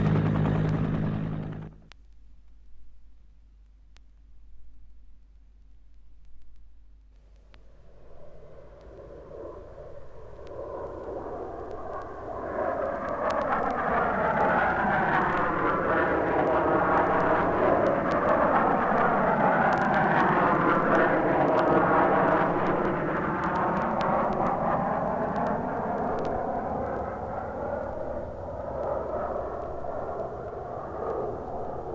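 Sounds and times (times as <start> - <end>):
airplane engines passing: 0.0 - 1.9, 7.7 - 31.9.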